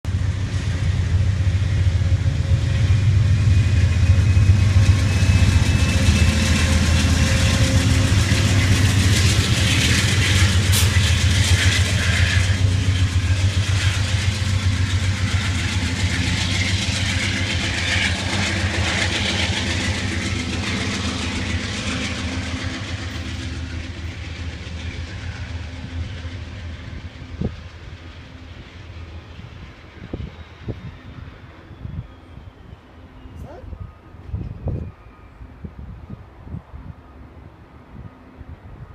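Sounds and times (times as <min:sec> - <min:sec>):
diesel locomotive engine drone: 0:00.0 - 0:38.9
rail and wheel noise: 0:00.0 - 0:38.9.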